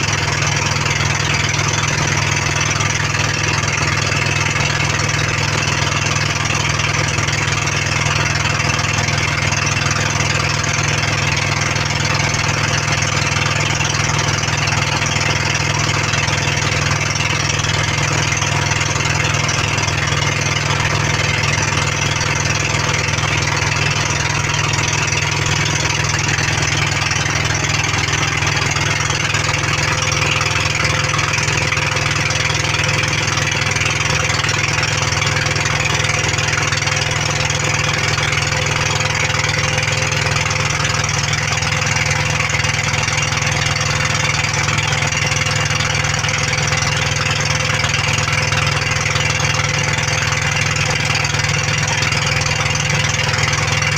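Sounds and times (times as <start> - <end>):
boat engine running: 0.0 - 53.9.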